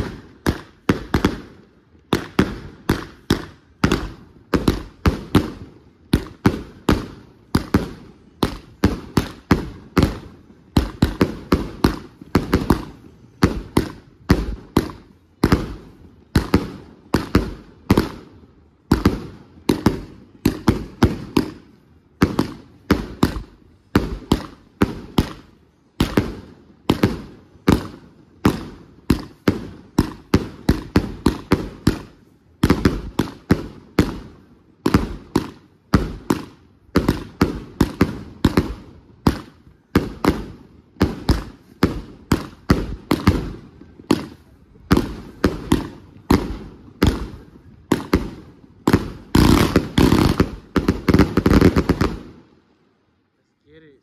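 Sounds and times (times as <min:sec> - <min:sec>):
fireworks bangs: 0:00.0 - 0:52.5.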